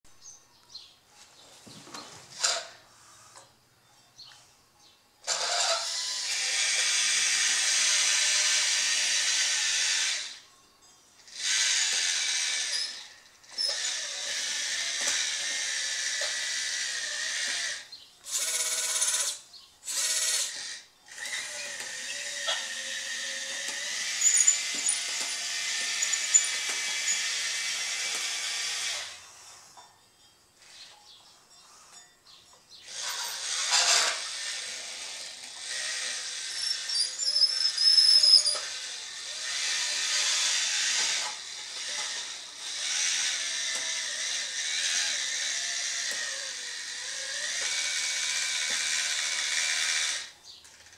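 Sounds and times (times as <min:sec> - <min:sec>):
toy bulldozer motors whirring: 0:01.3 - 0:03.6, 0:05.2 - 0:50.9.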